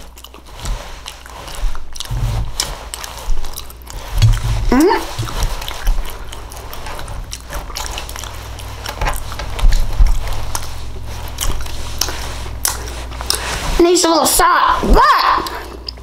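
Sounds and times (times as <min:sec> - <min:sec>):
wet smacking mouth sounds: 0:00.0 - 0:13.6, 0:15.4 - 0:16.0
close-miked chewing: 0:00.0 - 0:14.4, 0:15.2 - 0:16.0
steady low hum: 0:00.0 - 0:16.0.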